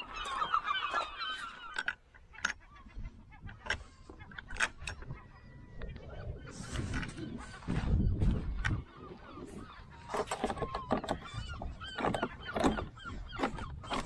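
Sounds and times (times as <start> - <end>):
flock of birds chattering: 0.0 - 14.0.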